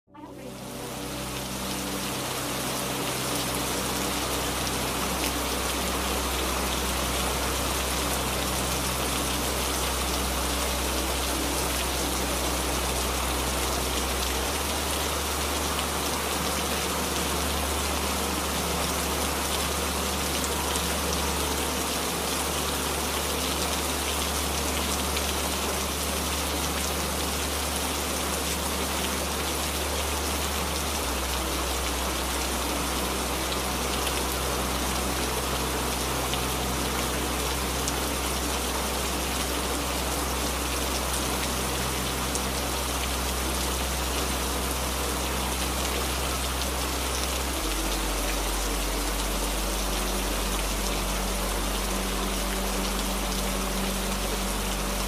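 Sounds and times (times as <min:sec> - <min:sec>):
low steady hum: 0:00.1 - 0:55.0
steady rainfall: 0:00.1 - 0:55.0.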